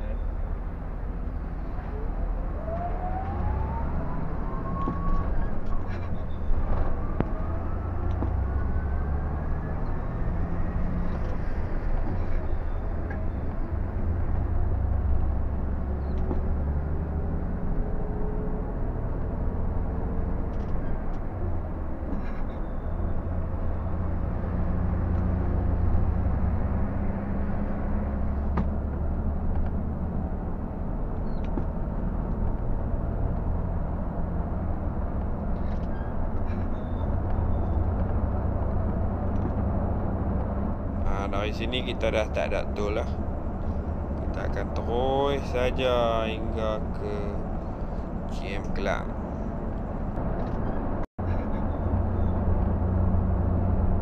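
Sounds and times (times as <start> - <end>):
bus engine drone: 0.0 - 54.0
tyre and road noise: 0.0 - 54.0.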